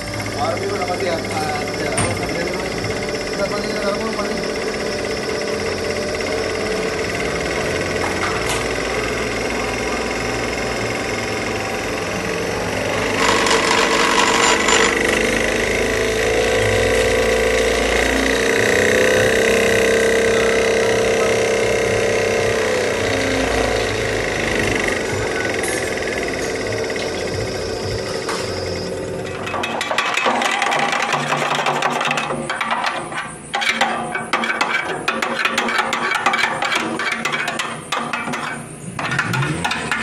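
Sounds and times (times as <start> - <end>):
humming tone: 0.0 - 34.0
injection pump mechanical clatter: 0.0 - 40.0.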